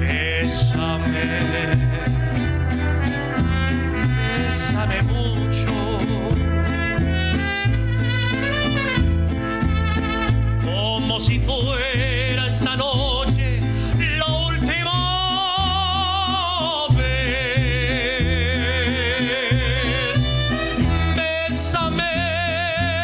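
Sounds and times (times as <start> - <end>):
mariachi band playing: 0.0 - 23.0.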